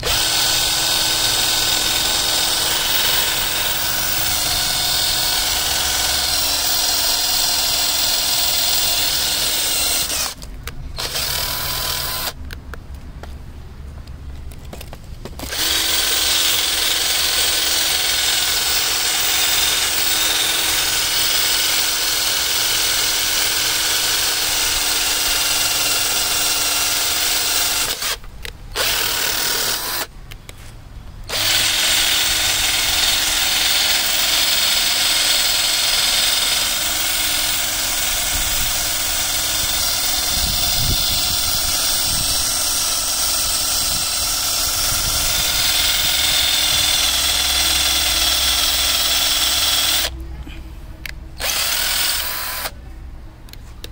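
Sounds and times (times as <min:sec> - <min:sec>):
cordless drill boring into wood: 0:00.0 - 0:10.4, 0:11.0 - 0:12.4, 0:15.4 - 0:30.1, 0:31.3 - 0:50.2, 0:51.4 - 0:52.7.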